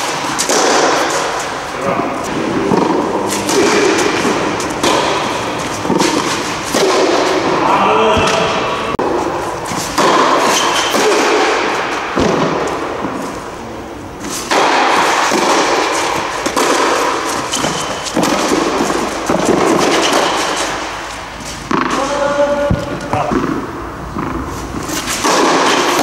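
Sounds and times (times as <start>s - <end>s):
racket striking tennis ball: 0.0s - 13.5s, 14.2s - 26.0s
loud rushing noise: 0.0s - 22.1s.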